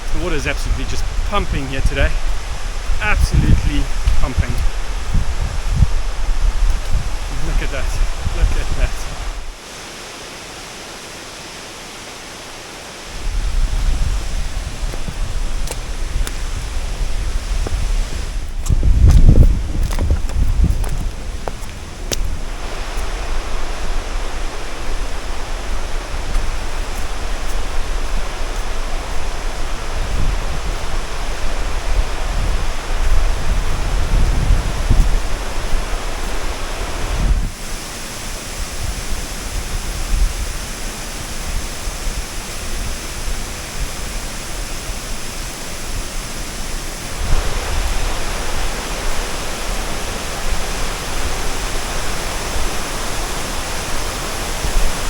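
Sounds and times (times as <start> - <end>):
wind buffeting microphone: 0.0 - 9.6, 13.1 - 55.0
waterfall rushing: 0.0 - 18.6, 19.3 - 55.0.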